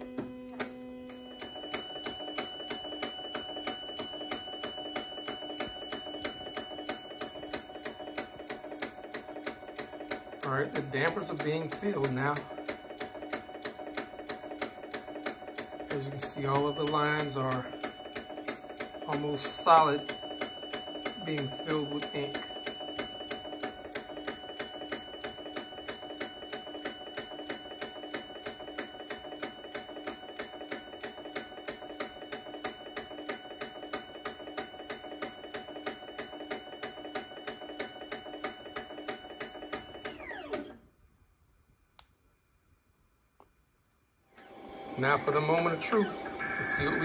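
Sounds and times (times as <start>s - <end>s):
printer rhythmic clicking: 0.0s - 40.8s, 44.4s - 47.0s
printer high whine: 0.0s - 41.1s, 44.3s - 47.0s
electrical hum: 0.0s - 47.0s.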